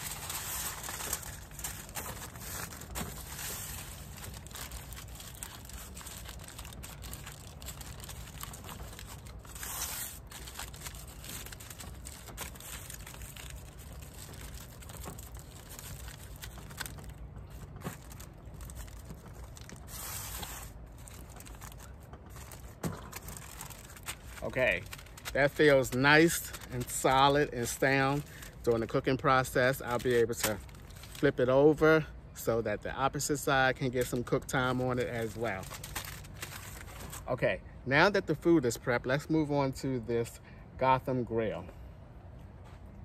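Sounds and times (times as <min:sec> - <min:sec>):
aluminium foil crinkling: 0:00.0 - 0:31.4, 0:33.8 - 0:37.3.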